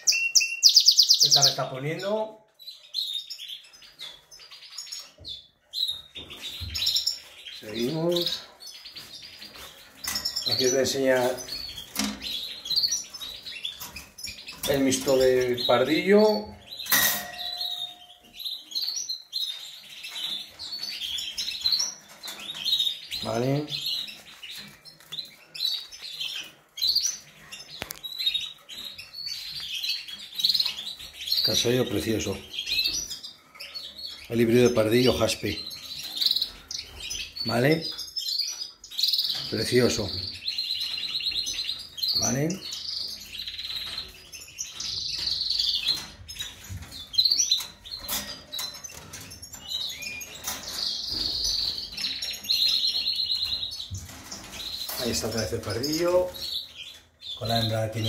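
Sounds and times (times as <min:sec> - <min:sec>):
cage birds chirping: 0:00.0 - 0:58.0.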